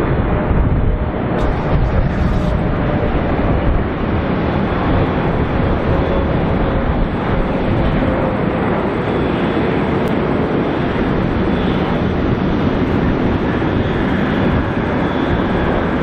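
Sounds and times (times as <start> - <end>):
jet airplane landing: 0.0 - 16.0.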